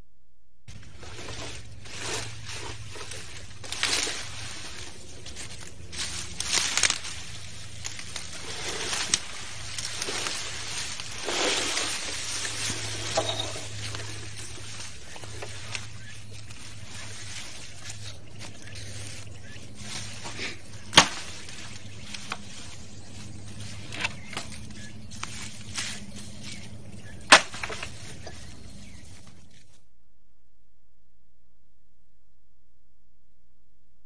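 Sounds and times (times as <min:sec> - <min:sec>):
rustling and rushing noise: 0:00.7 - 0:30.0.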